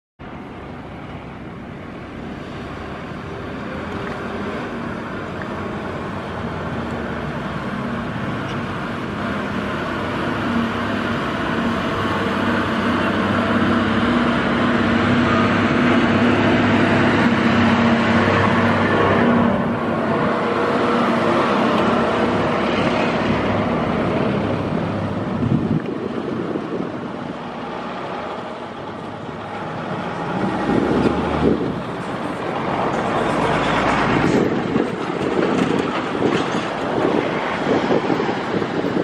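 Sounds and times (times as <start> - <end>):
bus diesel engine droning: 0.2 - 39.0.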